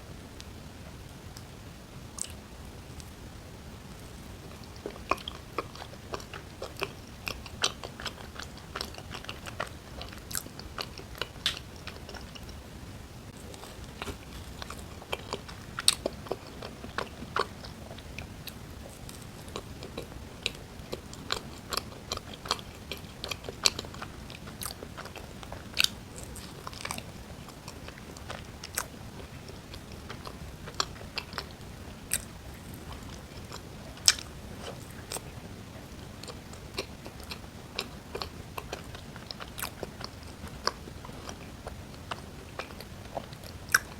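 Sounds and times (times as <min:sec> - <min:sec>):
biting and chewing: 0:04.4 - 0:12.6, 0:13.3 - 0:43.9.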